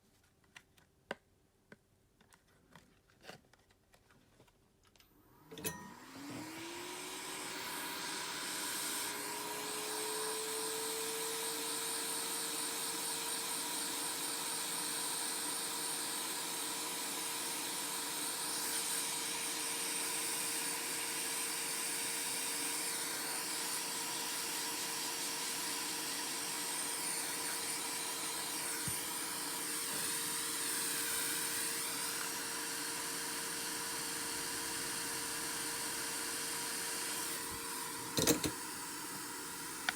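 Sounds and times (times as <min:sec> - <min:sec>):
heat gun fan whine: 0:05.5 - 0:39.9.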